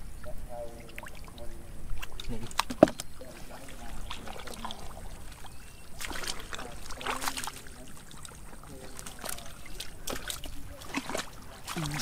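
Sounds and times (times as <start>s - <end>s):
splashing in muddy water: 0.2s - 12.0s.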